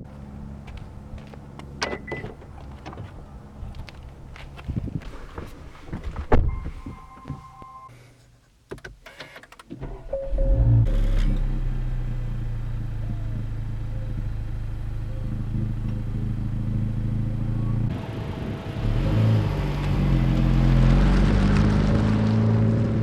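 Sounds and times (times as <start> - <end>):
car engine starting and idling: 0.0 - 7.9, 8.7 - 23.0.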